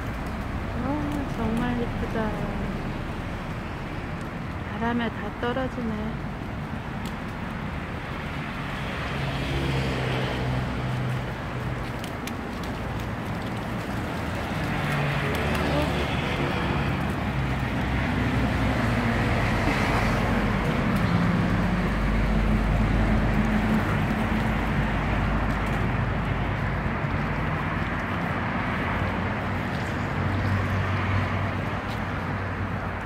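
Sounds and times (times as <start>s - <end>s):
cars passing on street: 0.0s - 33.0s
wind: 0.0s - 33.0s.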